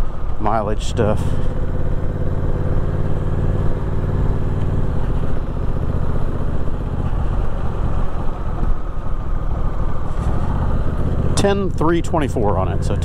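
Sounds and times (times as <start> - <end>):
motorcycle engine idling: 0.7 - 13.0.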